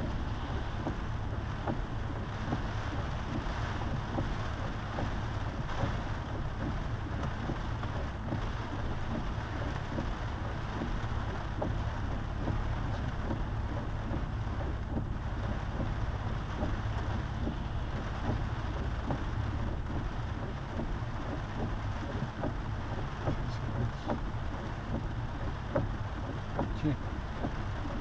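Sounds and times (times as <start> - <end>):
rain ticking: 0.0 - 28.0
tyres rumbling on wet road: 0.0 - 28.0.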